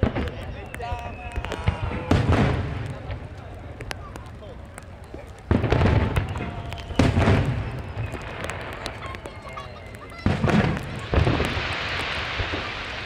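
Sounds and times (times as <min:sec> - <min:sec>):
firework booms: 0:00.0 - 0:04.4, 0:05.1 - 0:13.0
firework crackling hiss: 0:00.0 - 0:13.0.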